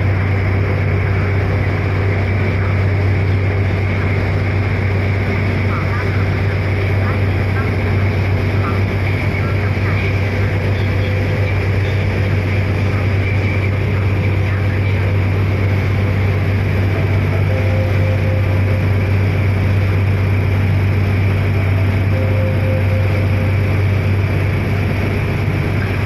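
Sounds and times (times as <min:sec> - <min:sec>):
ferry engine droning: 0:00.0 - 0:26.0.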